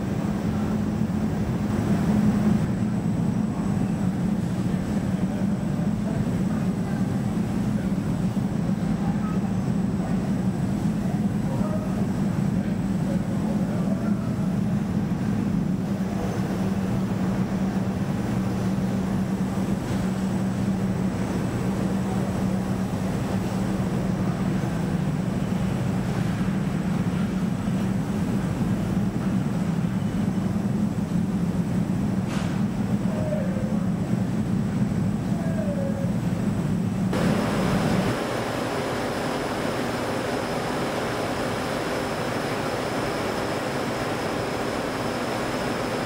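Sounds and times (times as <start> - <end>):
washing machine rumbling: 0.0 - 46.0.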